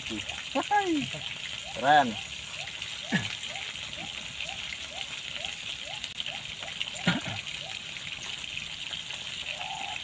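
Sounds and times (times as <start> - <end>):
meat frying in oil: 0.0 - 10.0.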